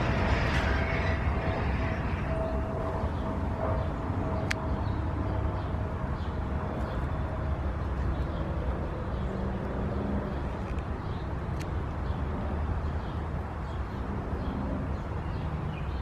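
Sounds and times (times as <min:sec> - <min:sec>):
low outdoor rumble: 0:00.0 - 0:15.2.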